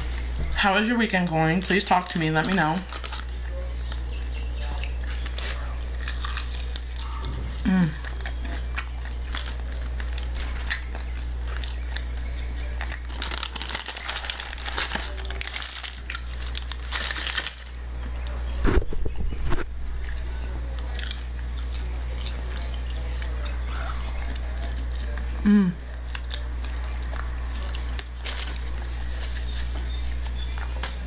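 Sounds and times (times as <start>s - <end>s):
chewing crispy food: 1.0s - 18.6s, 20.0s - 31.0s.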